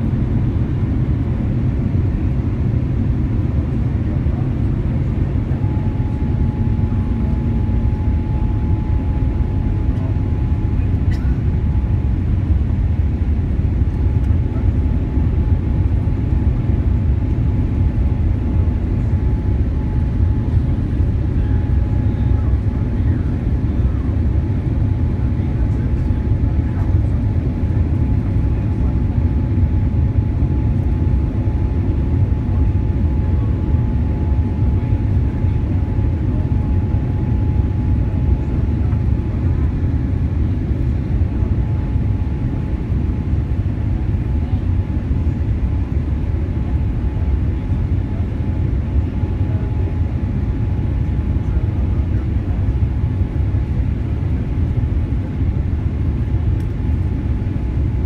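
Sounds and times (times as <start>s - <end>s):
engine and airflow rumble: 0.0s - 58.0s.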